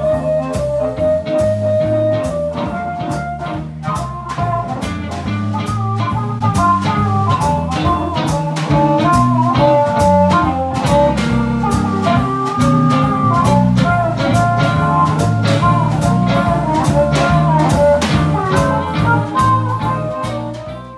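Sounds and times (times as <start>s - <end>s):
drum beat: 0.0s - 20.9s
electric guitar: 0.0s - 20.9s.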